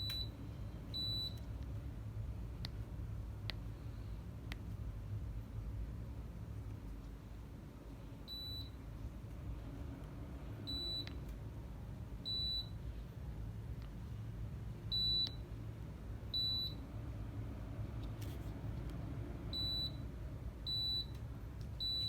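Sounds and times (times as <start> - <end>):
air conditioner humming: 0.0 - 22.0.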